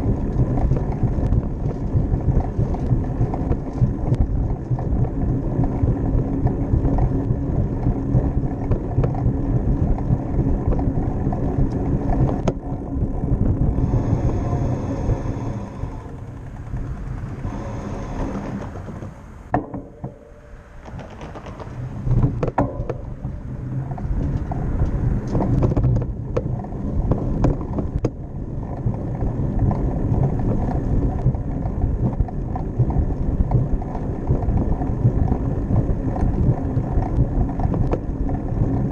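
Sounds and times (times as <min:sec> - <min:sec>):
bicycle clicks and rattles: 0:00.0 - 0:38.9
wind buffeting microphone: 0:00.0 - 0:38.9.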